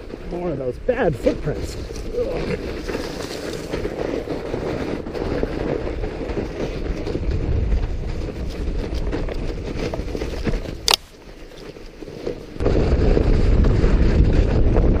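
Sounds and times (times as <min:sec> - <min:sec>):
bike tires crunching on snow: 0:00.0 - 0:15.0
wind buffeting microphone: 0:00.0 - 0:15.0.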